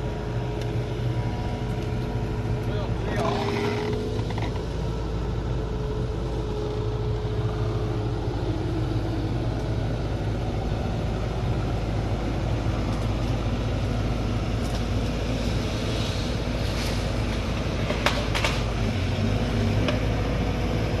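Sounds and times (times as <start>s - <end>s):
machinery engine running: 0.0s - 21.0s.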